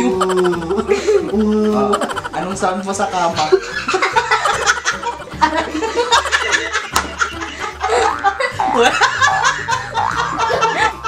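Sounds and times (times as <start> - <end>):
background music: 0.0 - 11.0
man and woman laughing: 0.0 - 11.0.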